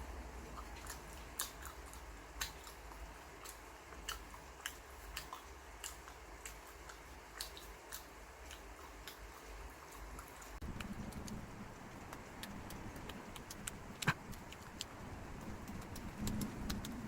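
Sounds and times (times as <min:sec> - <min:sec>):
person chewing pizza: 0:00.4 - 0:17.0.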